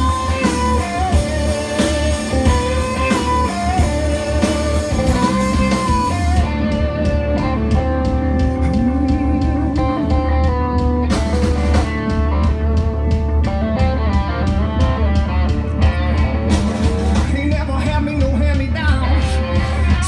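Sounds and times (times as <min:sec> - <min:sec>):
guitar note sliding upward: 0:00.0 - 0:17.0
bass guitar: 0:00.0 - 0:20.0
drums: 0:00.0 - 0:20.0
electric guitars: 0:00.0 - 0:20.0.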